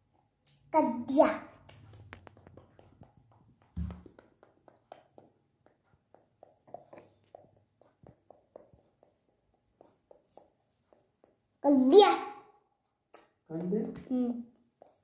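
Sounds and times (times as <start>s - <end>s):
pencil tapping on paper: 1.4s - 11.8s, 12.9s - 15.0s.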